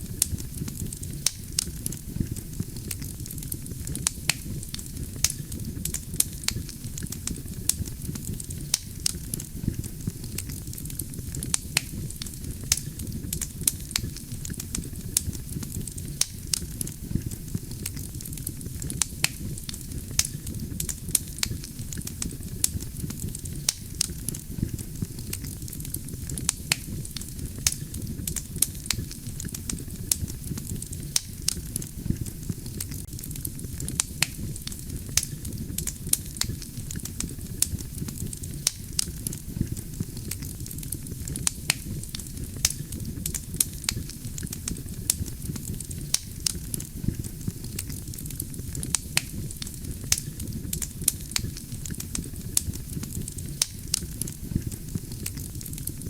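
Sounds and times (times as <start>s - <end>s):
burning logs crackling and popping: 0.0s - 56.0s
campfire flames rumbling: 0.0s - 56.0s.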